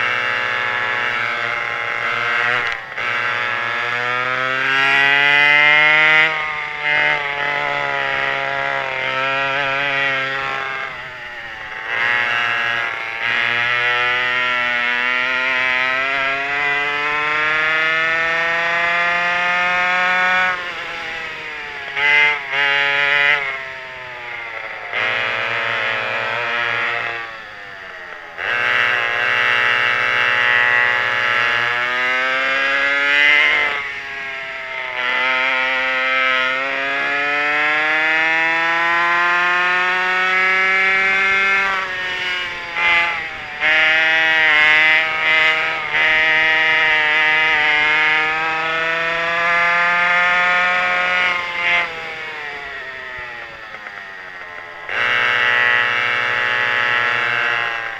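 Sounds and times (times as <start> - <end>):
two-stroke kart engines racing: 0.0 - 57.9.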